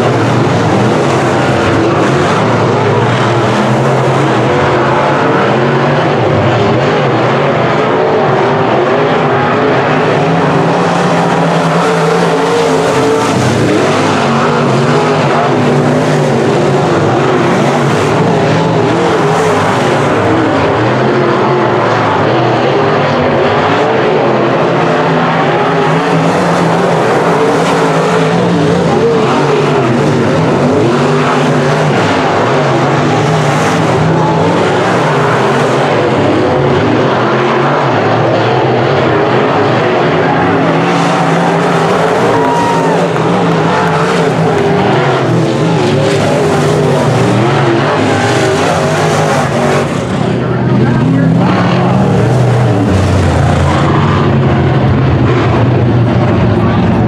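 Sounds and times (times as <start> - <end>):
race car engines running hard: 0.0 - 57.0.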